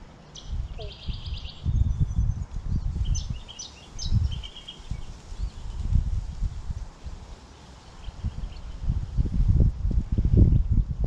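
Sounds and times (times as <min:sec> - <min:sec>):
small birds trilling and chirping: 0:00.1 - 0:09.5.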